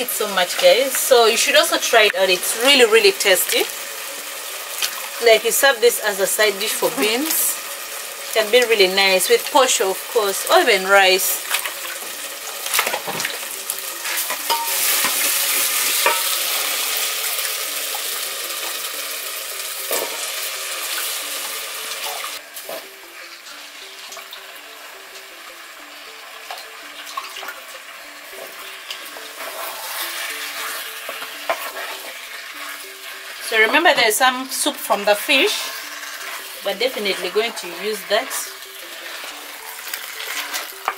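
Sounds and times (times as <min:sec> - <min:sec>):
sauce sizzling in oil: 0:00.0 - 0:40.9.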